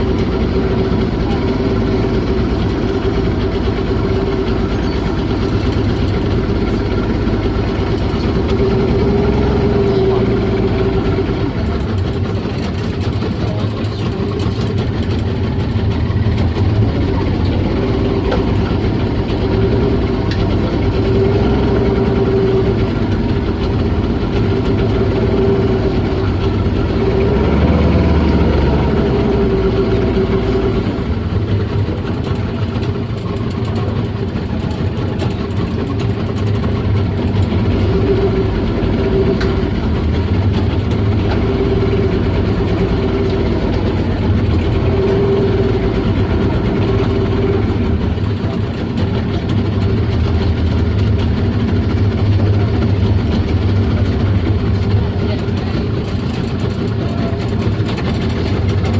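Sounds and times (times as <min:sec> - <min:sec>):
boat engine rumbling: 0:00.0 - 0:58.9.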